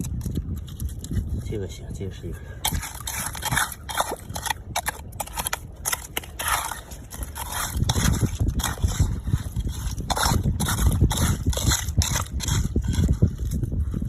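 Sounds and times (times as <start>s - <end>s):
digging in sandy shelly ground: 0.0s - 14.0s.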